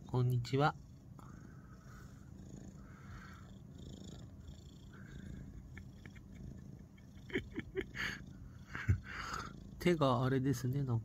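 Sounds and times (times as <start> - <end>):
kitten purring: 0.0 - 11.0.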